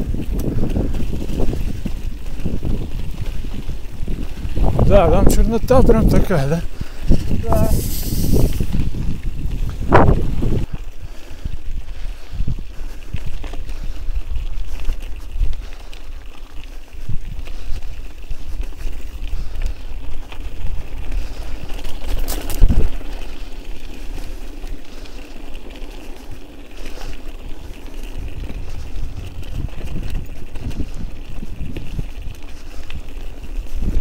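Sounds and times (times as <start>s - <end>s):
wind on microphone: 0.0s - 15.8s, 16.6s - 25.1s, 27.0s - 34.0s
bike ride noise: 0.0s - 34.0s.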